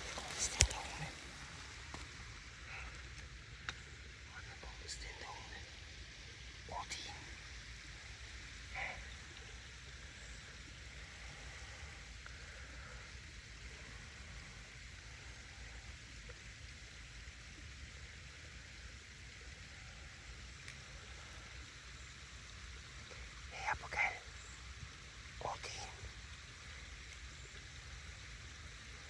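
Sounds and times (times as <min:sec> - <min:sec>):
faint hiss of running water: 0:00.0 - 0:29.0.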